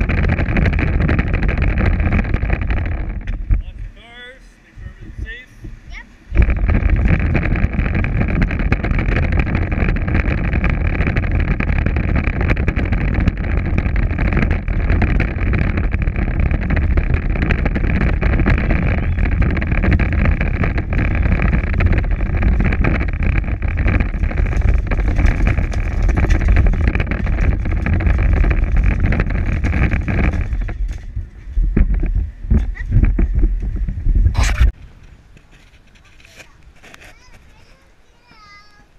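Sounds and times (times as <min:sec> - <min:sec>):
plastic wheels rumbling on asphalt: 0:00.0 - 0:04.2, 0:04.9 - 0:38.9.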